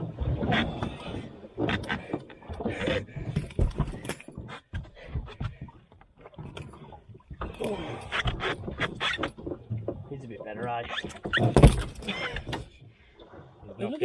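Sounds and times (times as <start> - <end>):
knocks and thumps: 0.0 - 13.0.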